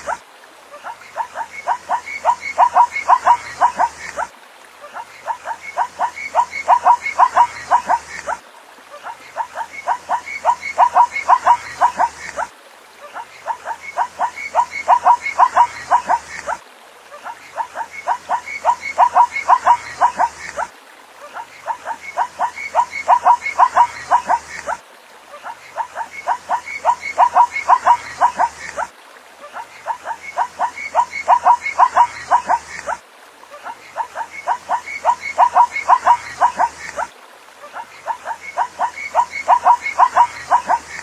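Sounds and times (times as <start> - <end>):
zebra yelping barks: 0.8 - 4.3, 4.9 - 8.4, 9.0 - 12.5, 13.1 - 16.6, 17.2 - 20.7, 21.3 - 24.8, 25.4 - 28.9, 29.5 - 33.0, 33.6 - 37.1, 37.7 - 41.0.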